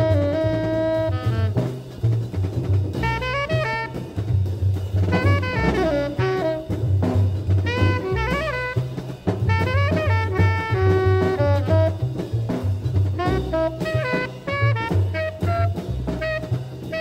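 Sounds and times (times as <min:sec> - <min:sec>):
saxophone melody: 0:00.0 - 0:02.0, 0:03.0 - 0:04.4, 0:05.0 - 0:12.3, 0:13.1 - 0:17.0
bass: 0:00.0 - 0:17.0
drum kit: 0:00.0 - 0:17.0.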